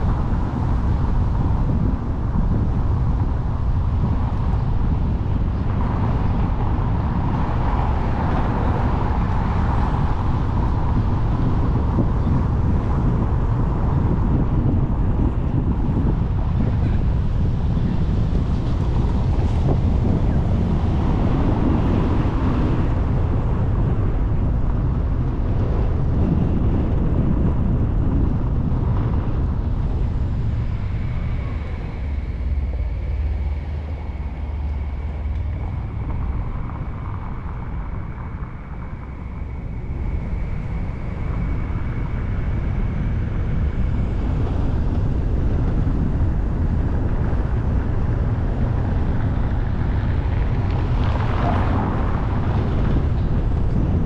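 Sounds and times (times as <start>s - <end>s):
tyre and road rumble: 0.0s - 54.0s
wind buffeting microphone: 0.0s - 54.0s.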